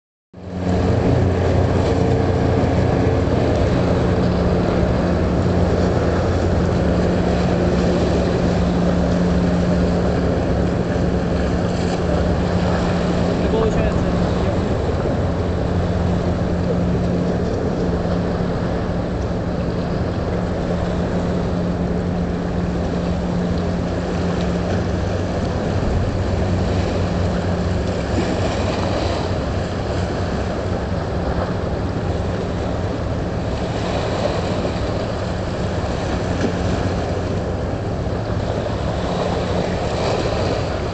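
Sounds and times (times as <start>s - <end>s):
wind: 0.3s - 40.9s
boat engine drone: 0.4s - 40.9s
water noise: 0.4s - 40.9s.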